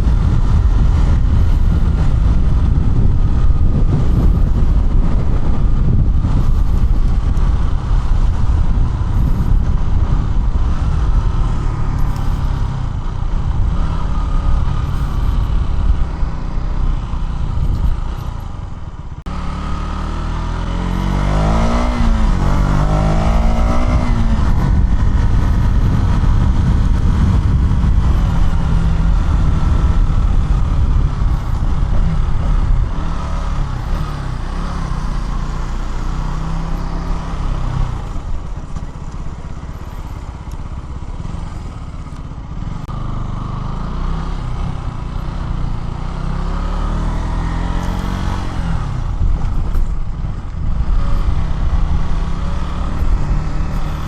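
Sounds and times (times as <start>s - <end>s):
wind rush: 0.0s - 40.3s, 46.9s - 54.0s
motorcycle engine revving: 0.0s - 54.0s.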